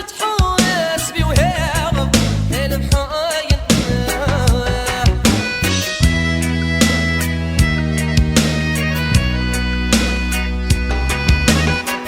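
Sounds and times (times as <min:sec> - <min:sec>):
reggae music: 0:00.0 - 0:12.0.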